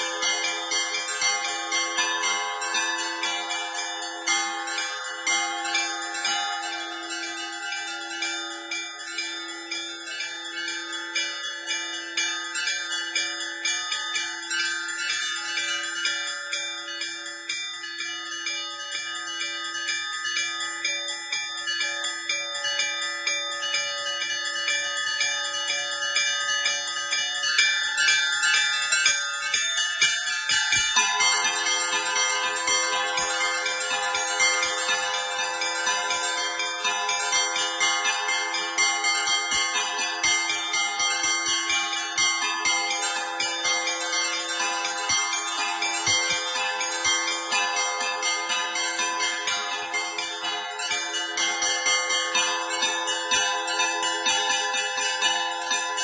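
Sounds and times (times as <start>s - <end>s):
small high bells ringing: 0.0s - 56.0s.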